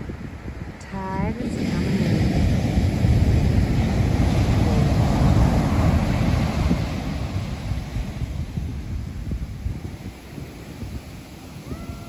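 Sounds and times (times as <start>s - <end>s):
ocean surf breaking on beach: 0.0s - 12.0s
wind buffeting microphone: 0.0s - 12.0s.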